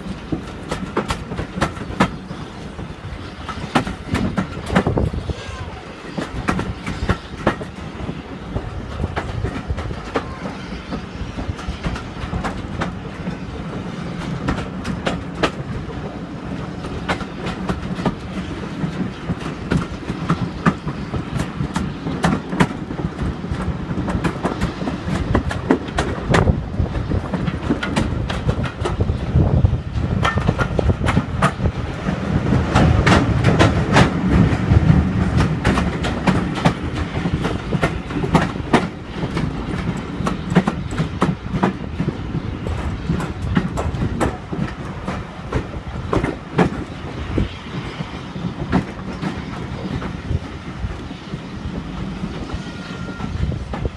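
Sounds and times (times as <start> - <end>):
train carriage rumbling: 0.0 - 53.9
wheels clicking over rail joints: 0.0 - 53.9.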